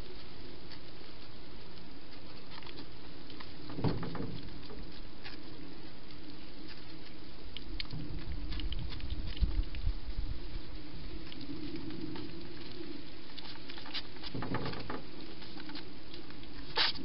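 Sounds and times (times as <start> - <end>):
hedgehog chewing: 0.0 - 17.0.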